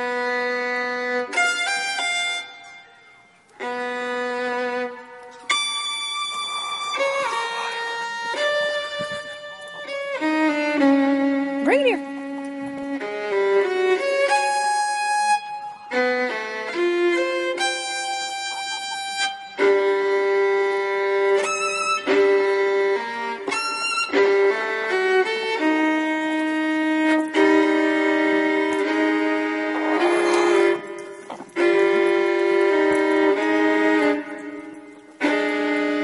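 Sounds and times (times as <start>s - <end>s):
violin melody: 0.0s - 36.0s.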